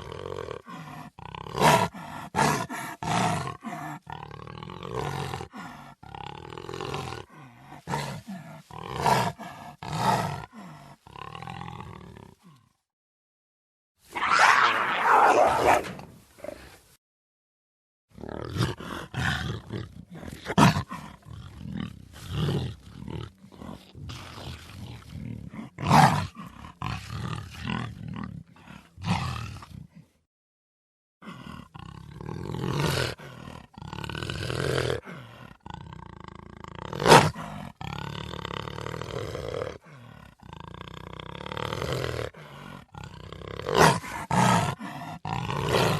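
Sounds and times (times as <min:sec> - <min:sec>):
large wild cat roaring: 0:00.0 - 0:12.8, 0:14.1 - 0:16.7, 0:18.1 - 0:30.1, 0:31.2 - 0:45.9.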